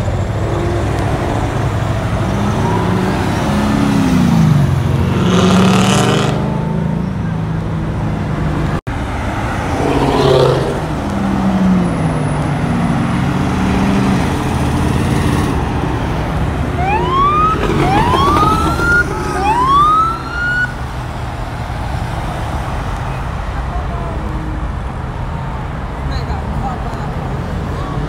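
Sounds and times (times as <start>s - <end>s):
car engines running: 0.0s - 28.0s.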